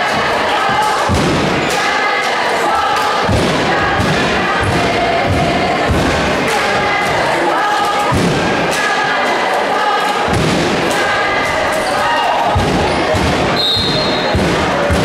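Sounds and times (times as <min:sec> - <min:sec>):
choir-like held voices: 0:00.0 - 0:15.0.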